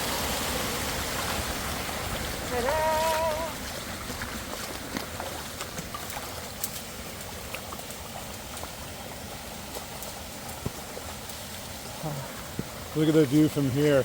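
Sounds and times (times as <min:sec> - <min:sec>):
creek water running: 0:00.0 - 0:14.0.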